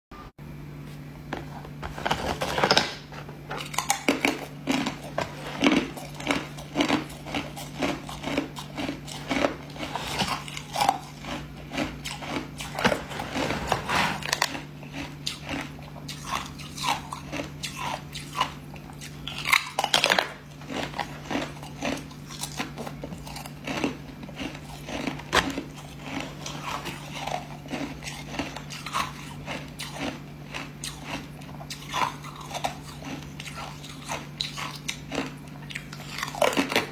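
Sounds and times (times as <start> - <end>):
ice being chewed: 3.5 - 36.9.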